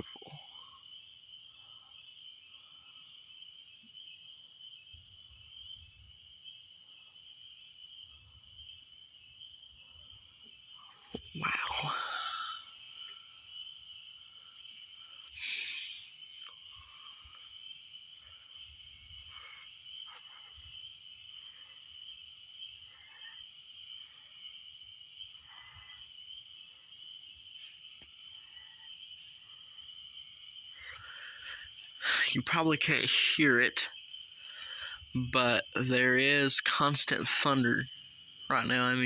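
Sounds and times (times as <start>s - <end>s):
night insect chorus: 0.0s - 39.0s.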